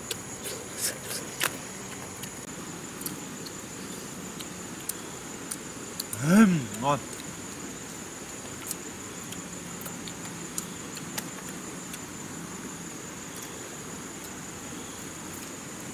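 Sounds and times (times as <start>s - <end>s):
insects chirring: 0.0s - 15.9s.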